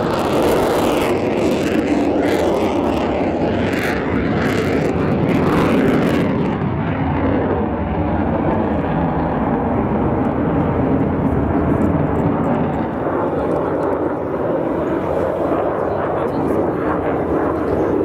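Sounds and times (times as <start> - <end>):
jet flying past: 0.0 - 18.0.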